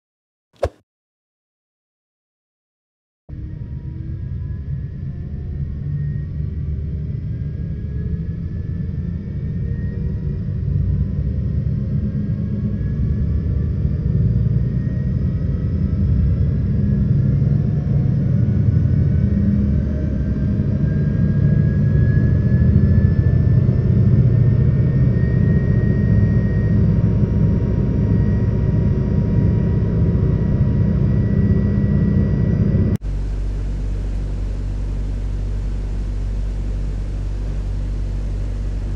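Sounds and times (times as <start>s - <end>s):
jet engine rumble and whine: 3.3s - 38.9s.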